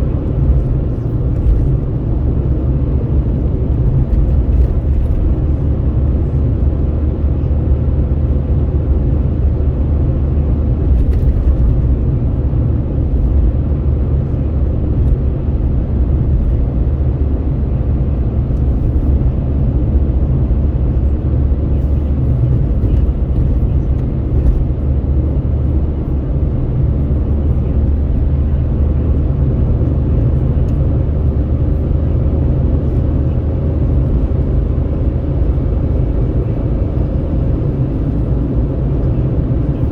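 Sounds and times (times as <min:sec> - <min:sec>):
road and wind noise in vehicle: 0:00.0 - 0:39.9.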